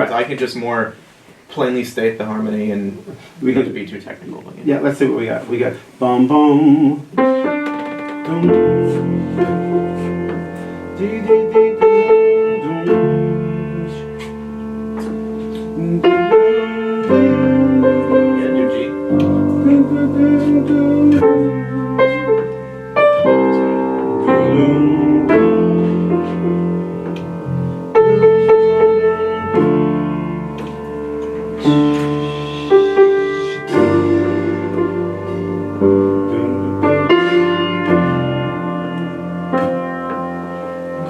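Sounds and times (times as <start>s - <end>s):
slow piano chords: 2.1s - 41.0s.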